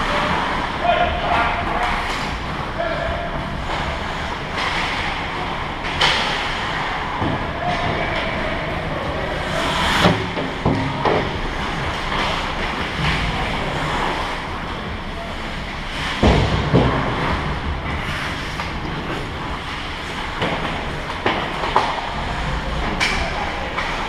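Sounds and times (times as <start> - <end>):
skates rushing on ice: 0.0 - 24.0.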